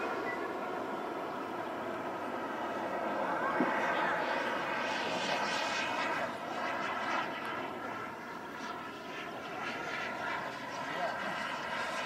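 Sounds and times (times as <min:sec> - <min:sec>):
model jet engine rushing whine: 0:00.0 - 0:12.0.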